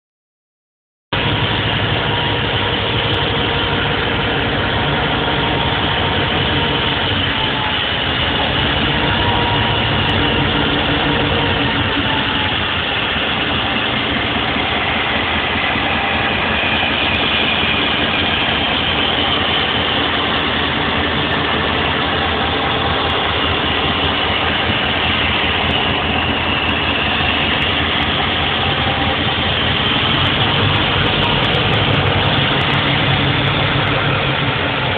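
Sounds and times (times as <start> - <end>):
diesel locomotive engine running: 1.1 - 34.9.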